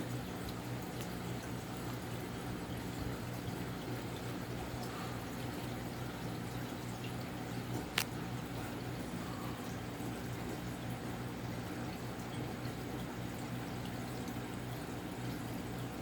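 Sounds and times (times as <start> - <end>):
ceiling fan motor hum: 0.0 - 16.0.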